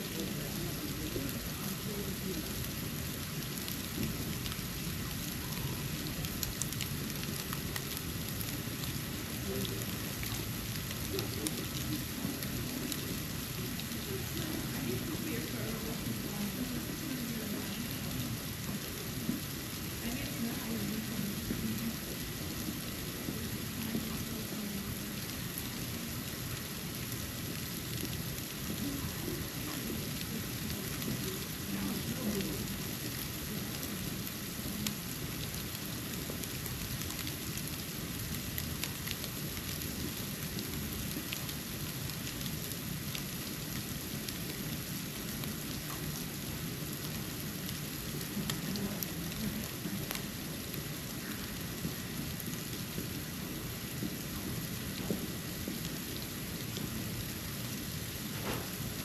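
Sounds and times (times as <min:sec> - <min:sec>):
snow falling hiss: 0:00.0 - 0:59.0.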